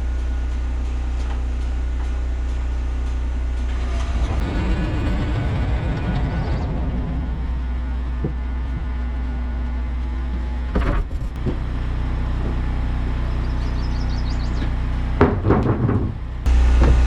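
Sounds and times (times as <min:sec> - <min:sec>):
sawmill engine drone: 0:00.0 - 0:17.0.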